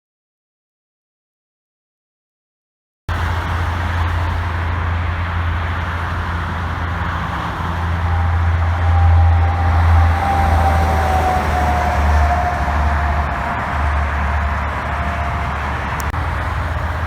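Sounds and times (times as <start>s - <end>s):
diesel truck engine droning: 3.1s - 17.0s.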